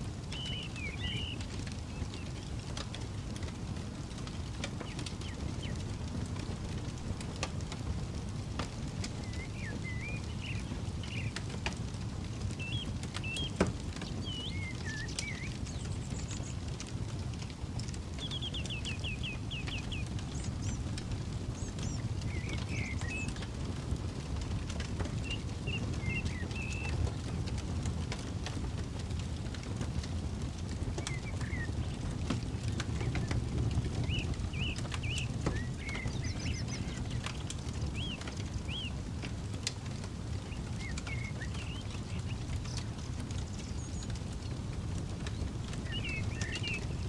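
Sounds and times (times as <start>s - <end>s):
campfire crackling and popping: 0.0s - 47.0s
songbirds chirping: 0.0s - 47.0s.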